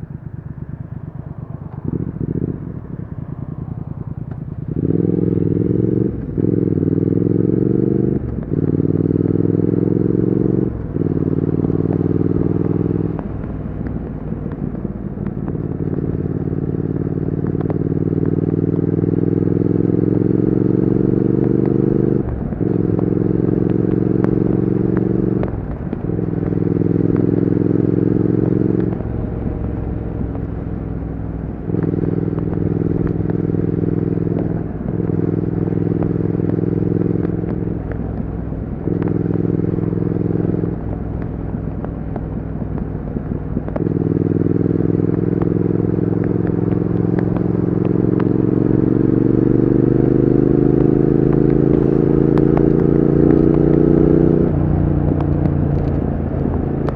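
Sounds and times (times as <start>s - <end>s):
motorcycle engine and exhaust: 0.0s - 56.9s.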